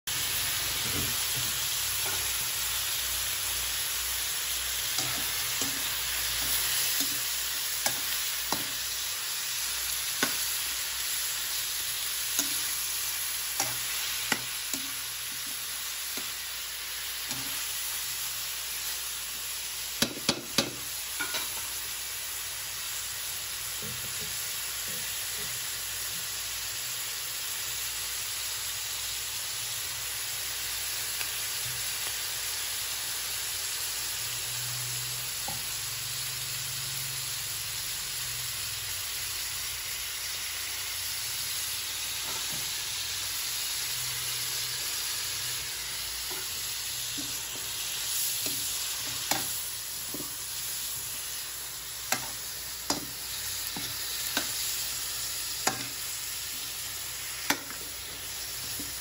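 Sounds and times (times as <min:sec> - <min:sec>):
chicken sizzling in a wok: 0:00.1 - 0:59.0.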